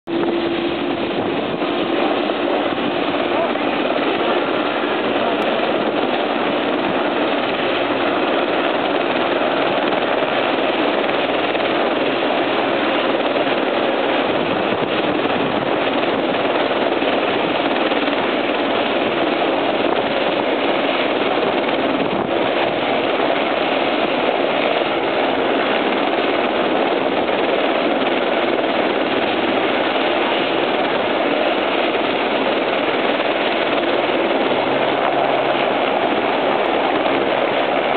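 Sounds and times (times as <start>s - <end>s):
helicopter engine and rotor: 0.1s - 37.9s.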